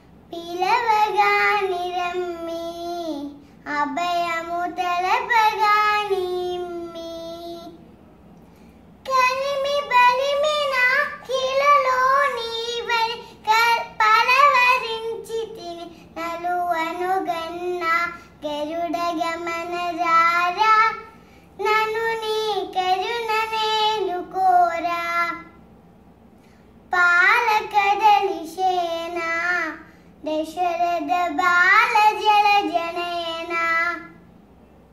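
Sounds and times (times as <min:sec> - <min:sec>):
girl singing unaccompanied: 0:00.0 - 0:07.8, 0:09.0 - 0:25.6, 0:26.9 - 0:34.3.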